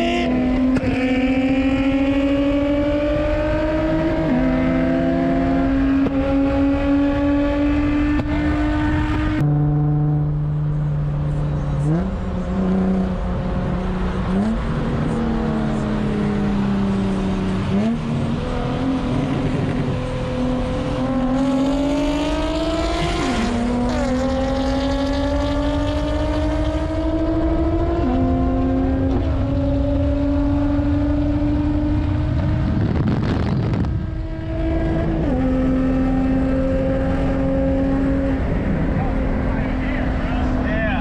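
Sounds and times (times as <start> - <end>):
car engine accelerating through gears: 0.0 - 41.0.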